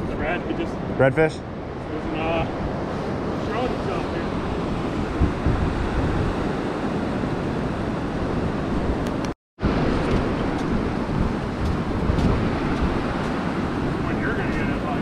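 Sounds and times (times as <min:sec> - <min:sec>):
breaking surf: 0:00.0 - 0:15.0
wind buffeting microphone: 0:00.0 - 0:15.0.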